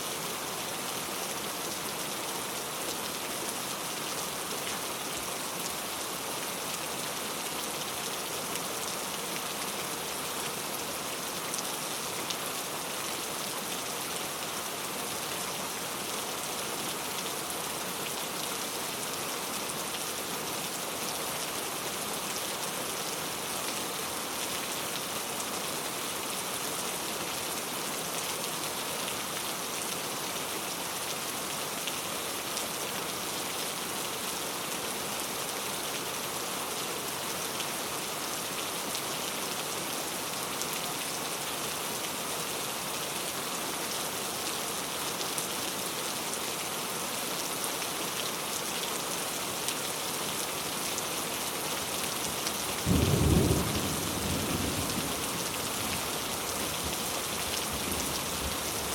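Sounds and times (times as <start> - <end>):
heavy rain pouring: 0.2 - 58.9.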